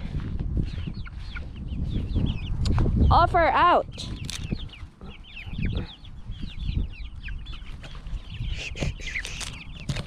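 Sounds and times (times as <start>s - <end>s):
hens clucking: 0.2s - 10.0s.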